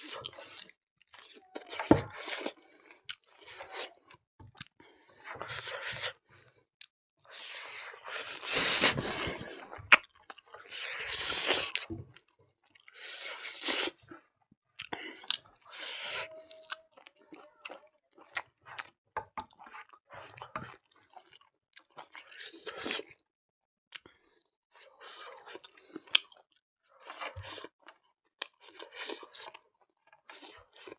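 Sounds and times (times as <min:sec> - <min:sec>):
person chewing food: 0:00.0 - 0:23.3, 0:23.9 - 0:30.9.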